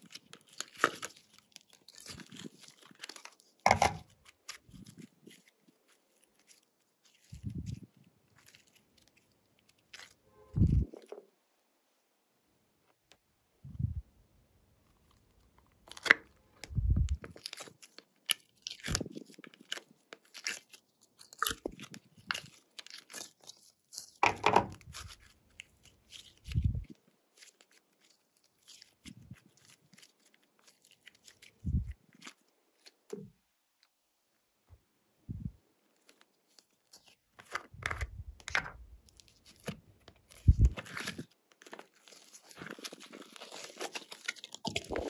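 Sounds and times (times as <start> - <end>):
slime crackling and popping: 0.0 - 11.1, 14.9 - 33.2, 36.0 - 45.0.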